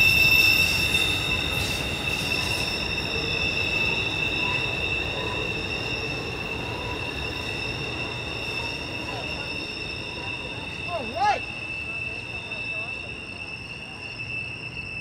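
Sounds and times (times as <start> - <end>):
train wheels squealing on rail: 0.0 - 15.0.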